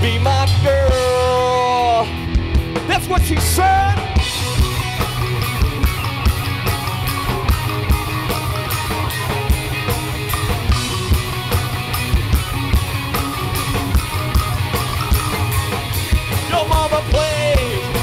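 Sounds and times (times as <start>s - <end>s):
rock band instrumental: 0.0s - 18.0s
steady drum beat: 0.0s - 18.0s
sustained bass line: 0.0s - 18.0s.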